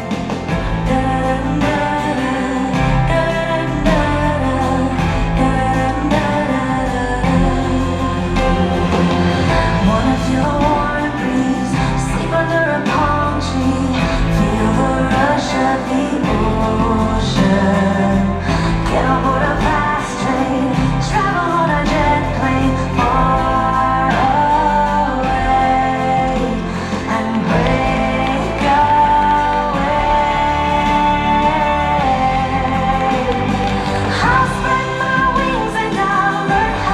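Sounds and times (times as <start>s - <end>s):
person singing with band: 0.0s - 36.9s
sustained bass notes: 0.0s - 36.9s.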